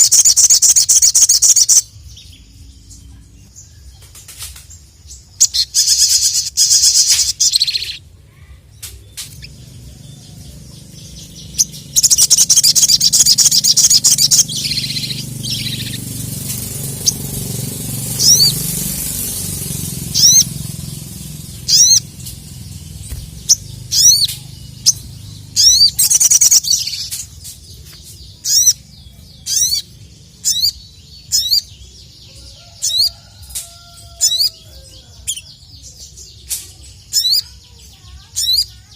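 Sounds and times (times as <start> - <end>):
bird singing trills and chirps: 0.0 - 38.9.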